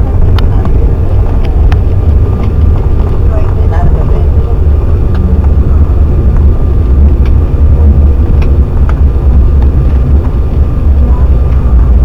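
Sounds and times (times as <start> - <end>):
jet cabin low rumble: 0.0 - 12.0.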